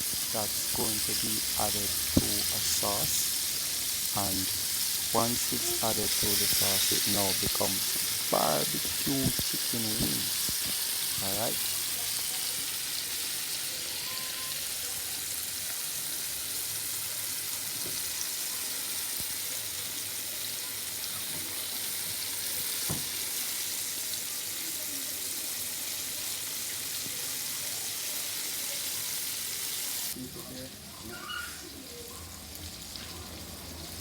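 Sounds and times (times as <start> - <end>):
fish deep-frying in oil: 0.0 - 34.0.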